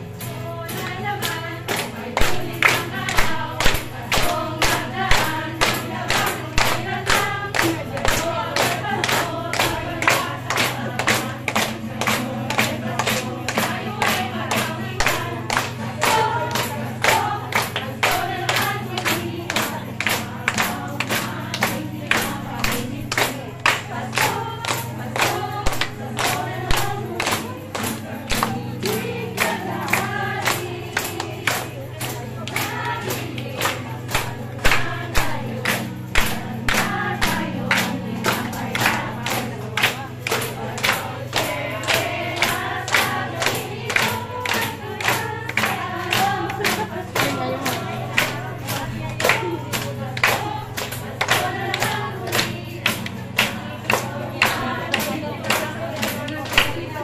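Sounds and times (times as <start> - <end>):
acoustic guitar: 0.0 - 57.0
women singing: 0.0 - 57.0.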